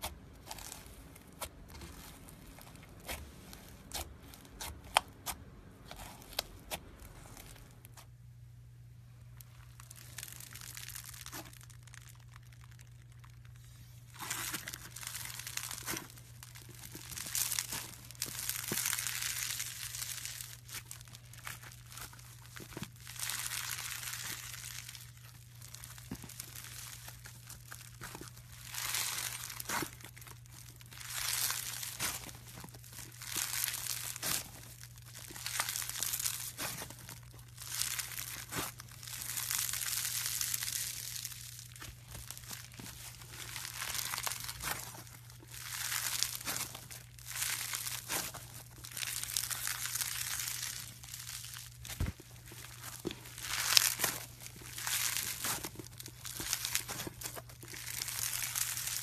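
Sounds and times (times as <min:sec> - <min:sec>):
crunchy slime squeezed by hand: 0:00.0 - 0:08.2, 0:09.4 - 0:59.0.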